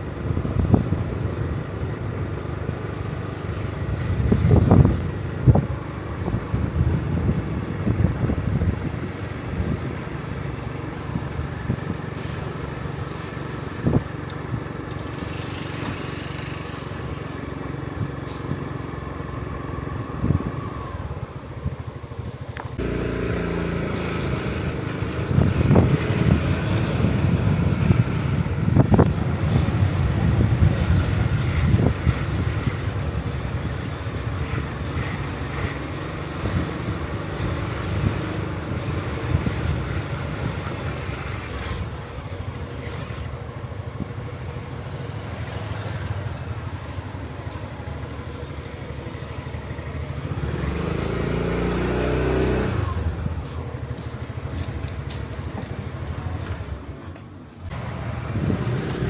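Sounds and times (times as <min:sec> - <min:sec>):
motor engine running: 0:00.1 - 0:56.8.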